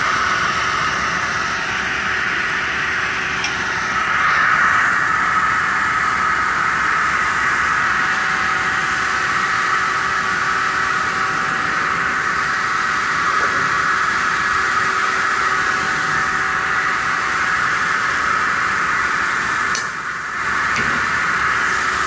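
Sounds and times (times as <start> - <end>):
circular saw running: 0.0 - 22.0.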